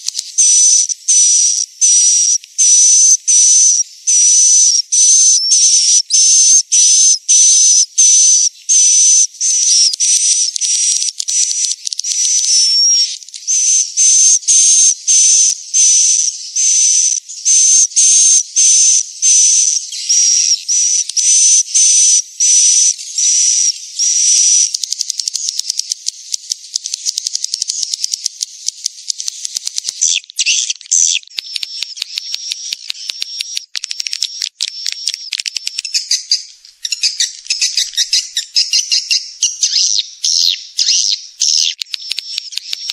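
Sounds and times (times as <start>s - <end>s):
fast dry twittering clicks: 0.0s - 42.9s.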